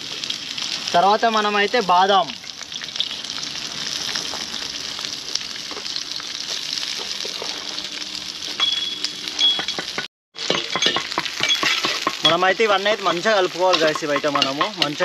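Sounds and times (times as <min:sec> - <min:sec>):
nuts sizzling in hot fat: 0:00.0 - 0:15.0.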